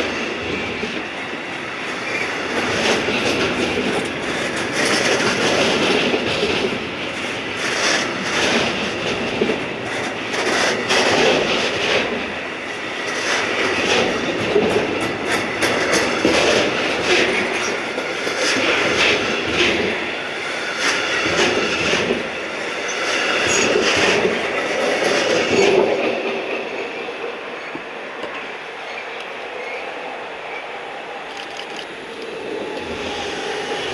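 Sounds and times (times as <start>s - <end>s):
train wheels clicking over joints: 0.0s - 30.6s.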